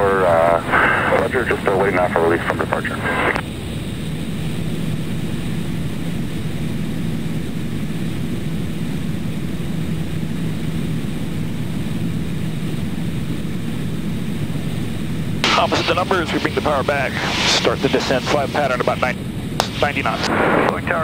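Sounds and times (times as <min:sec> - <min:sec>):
airplane engine and propeller droning: 0:00.0 - 0:21.0.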